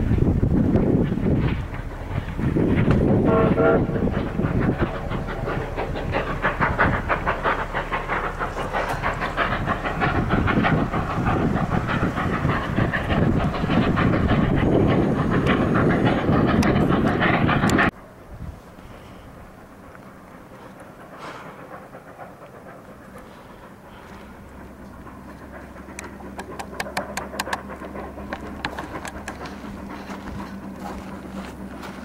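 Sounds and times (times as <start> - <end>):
train wheels clicking over rail joints: 0.0 - 32.0.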